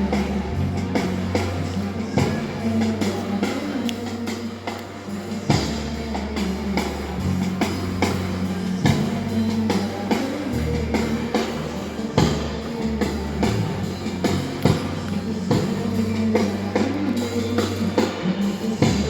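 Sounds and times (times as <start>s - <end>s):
bass line: 0.0s - 19.0s
electric guitar: 0.0s - 19.0s.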